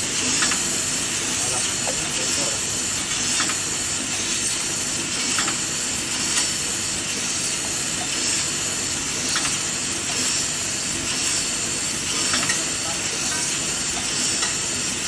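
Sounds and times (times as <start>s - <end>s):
packaging machine hissing: 0.0s - 15.0s.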